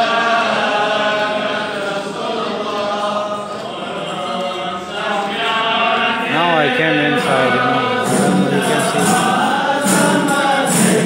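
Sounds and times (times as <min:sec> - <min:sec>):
men chanting devotional song: 0:00.0 - 0:11.0.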